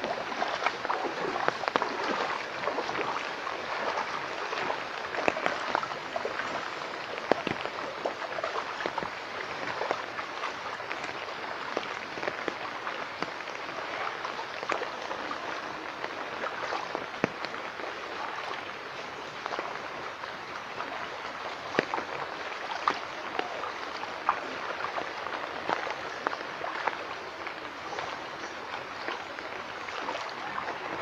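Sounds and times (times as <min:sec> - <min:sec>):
rain falling on water: 0:00.0 - 0:31.0.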